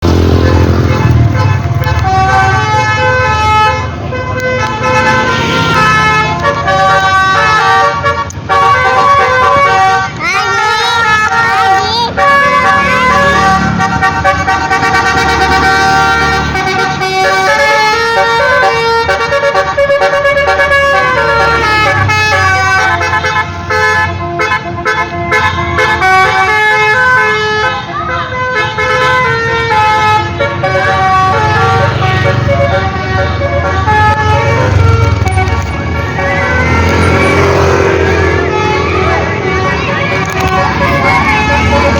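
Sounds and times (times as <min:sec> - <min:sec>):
bus engine rumble: 0:00.0 - 0:41.9
bus multi-tone horn tune: 0:00.0 - 0:41.9.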